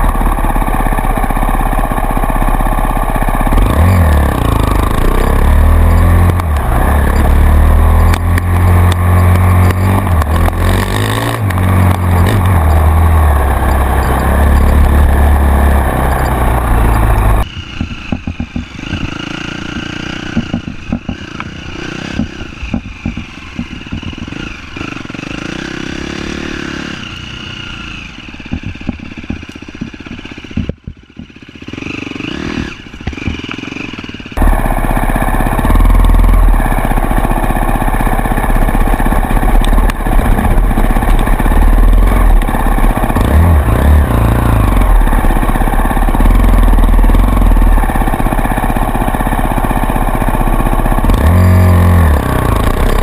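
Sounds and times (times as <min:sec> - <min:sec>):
off-road vehicle engine revving: 0:03.0 - 0:28.6, 0:31.6 - 0:53.0.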